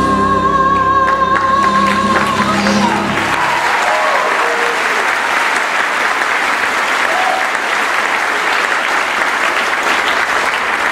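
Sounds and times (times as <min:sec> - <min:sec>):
audience applauding: 0:01.1 - 0:10.9.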